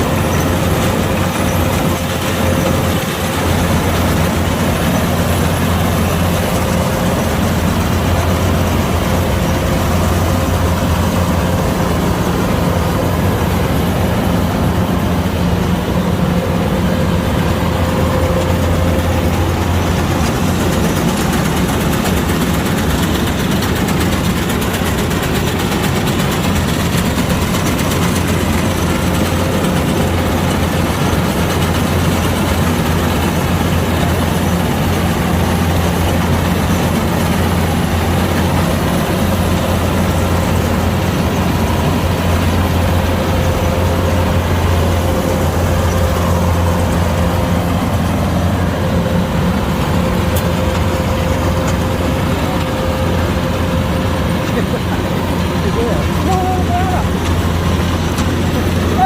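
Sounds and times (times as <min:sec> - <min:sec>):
diesel engine low drone: 0:00.0 - 0:59.0
steady engine whine: 0:00.0 - 0:59.0.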